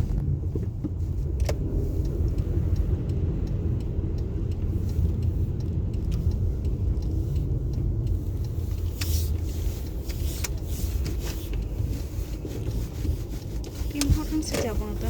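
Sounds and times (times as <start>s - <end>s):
car road rumble on snow: 0.0s - 15.0s
faint regular ticking: 0.0s - 15.0s.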